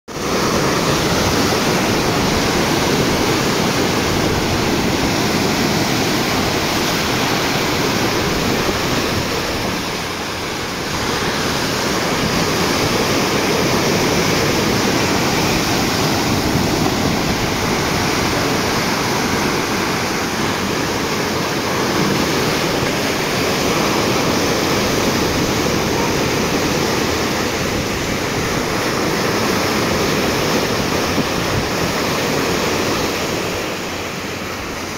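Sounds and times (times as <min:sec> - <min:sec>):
sea water churning along hull: 0:00.1 - 0:34.9.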